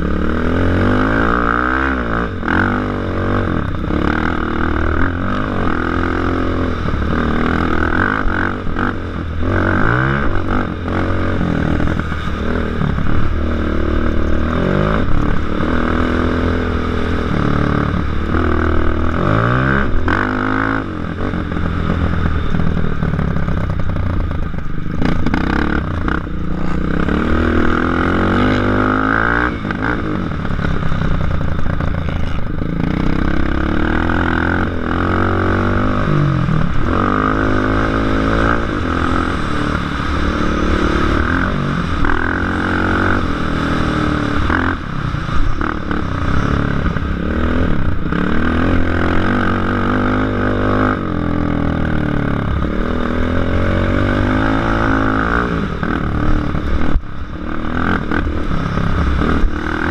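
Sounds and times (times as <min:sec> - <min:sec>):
atv engine revving hard: 0:00.0 - 0:24.2, 0:25.0 - 0:59.9.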